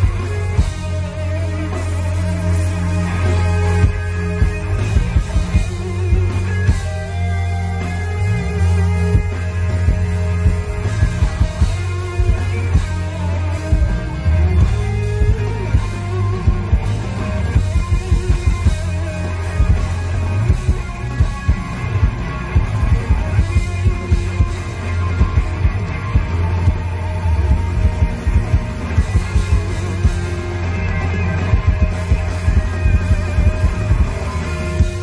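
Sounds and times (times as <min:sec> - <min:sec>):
bass line: 0:00.0 - 0:35.0
electric guitar: 0:00.0 - 0:35.0.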